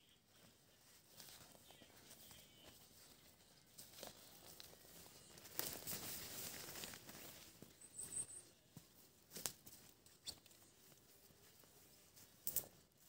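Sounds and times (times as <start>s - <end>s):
nylon sleeping pad rustling: 0.0s - 13.0s.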